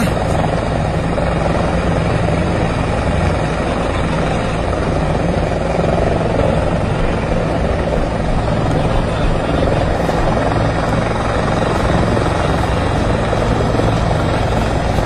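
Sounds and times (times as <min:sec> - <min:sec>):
helicopter rotor and engine din: 0:00.0 - 0:15.0.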